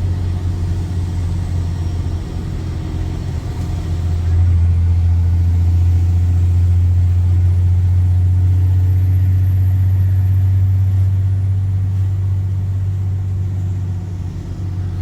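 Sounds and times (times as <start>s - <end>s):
diesel bus engine exhaust drone: 0.0s - 15.0s.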